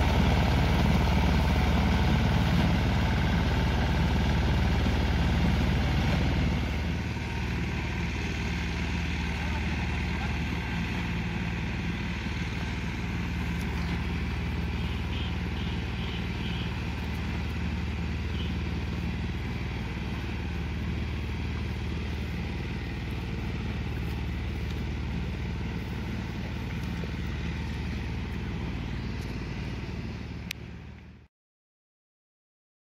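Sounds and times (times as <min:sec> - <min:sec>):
reaper engine running: 0:00.0 - 0:31.3.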